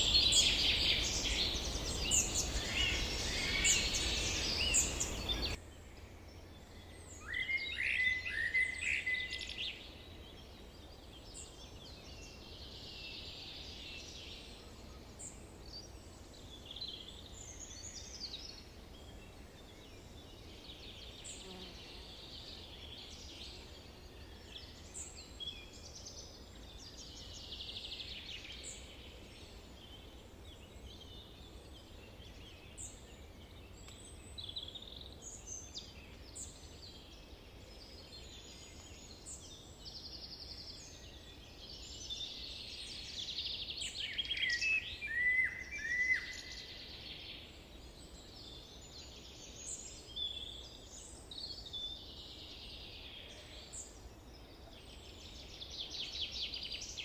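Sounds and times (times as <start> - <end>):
low background noise: 0.0 - 57.0
songbirds chirping: 0.0 - 57.0.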